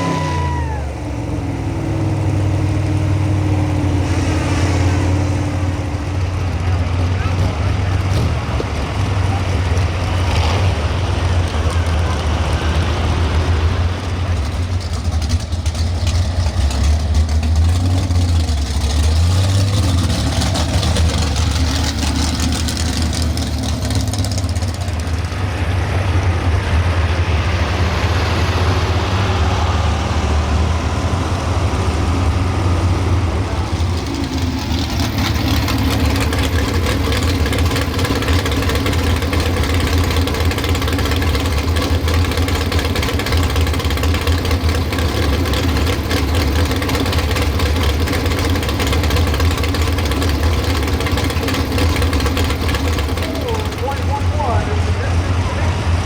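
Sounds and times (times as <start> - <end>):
truck engine running loud: 0.0 - 56.0.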